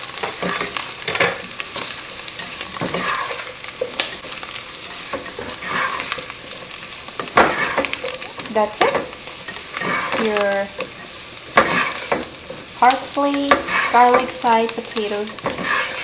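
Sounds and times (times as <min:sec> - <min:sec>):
food sizzling in hot oil: 0:00.0 - 0:16.0
utensil scraping a pot: 0:00.2 - 0:03.9, 0:04.7 - 0:12.8, 0:13.5 - 0:16.0.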